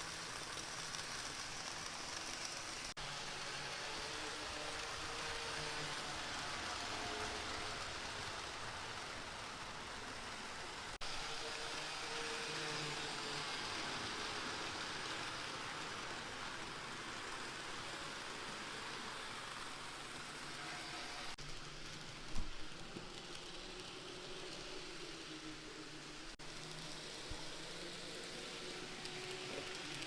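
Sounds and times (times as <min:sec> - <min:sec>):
hiss of wheels on track: 0:00.0 - 0:30.0.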